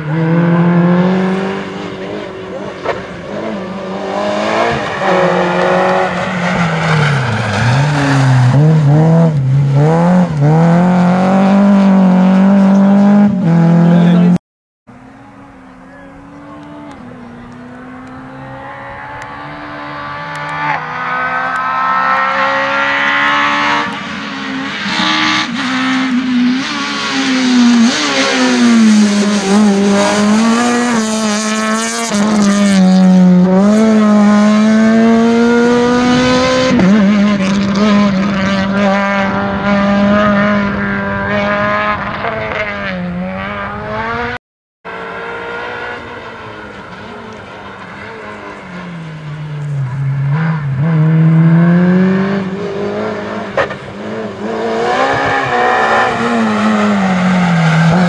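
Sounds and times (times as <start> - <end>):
rally car engine revving: 0.0 - 14.4, 15.2 - 58.0.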